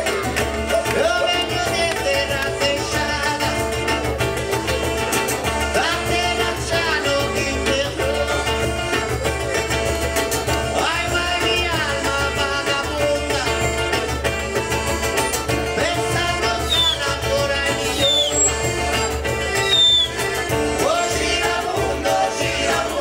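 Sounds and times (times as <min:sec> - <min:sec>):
accordion: 0:00.0 - 0:23.0
electric guitar: 0:00.0 - 0:23.0
hand percussion: 0:00.0 - 0:23.0
saxophone: 0:00.0 - 0:23.0
man singing lead: 0:00.6 - 0:04.1, 0:05.4 - 0:23.0.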